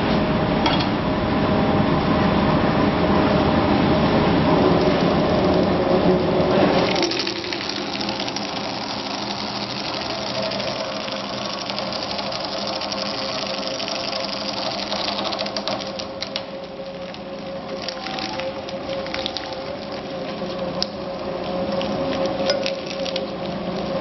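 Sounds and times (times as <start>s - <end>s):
pipe bending machine hum: 0.0s - 24.0s.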